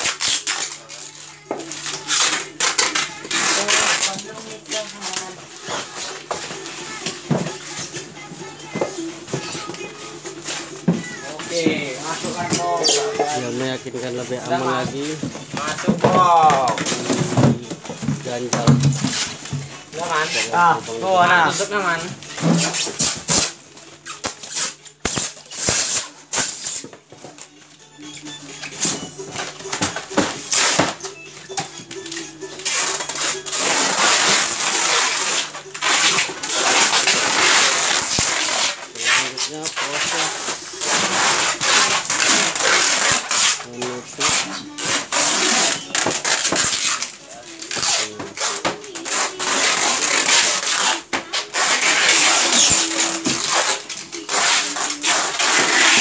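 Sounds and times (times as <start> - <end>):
packing tape pulled off roll: 0.0 - 15.7, 21.5 - 27.6, 28.2 - 31.1, 31.8 - 56.0
plastic wrap crinkling: 0.0 - 31.0, 31.9 - 56.0.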